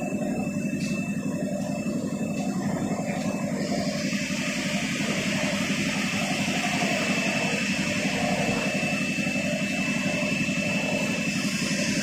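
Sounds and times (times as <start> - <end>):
molding machine humming and whining: 0.0 - 12.0.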